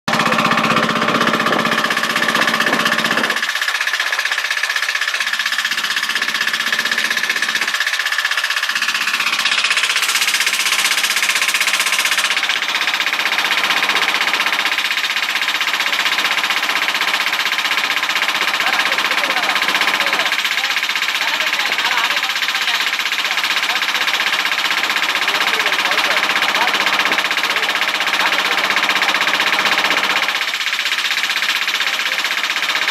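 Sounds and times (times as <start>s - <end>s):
motorboat engine running: 0.0s - 32.9s.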